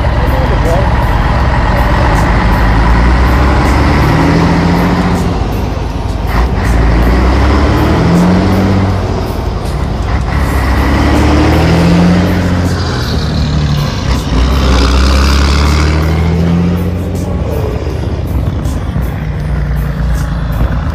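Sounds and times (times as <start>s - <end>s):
diesel truck pulling away: 0.0s - 20.9s.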